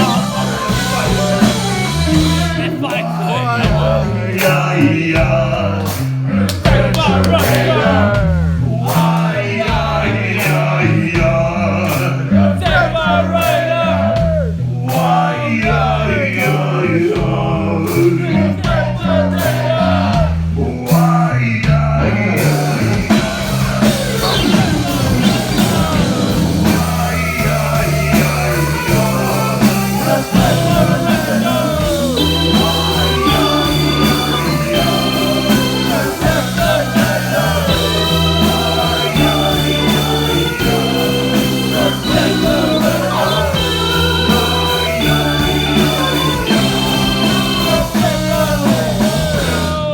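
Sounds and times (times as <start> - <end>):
live rock band playing: 0.0 - 15.8, 22.3 - 49.9.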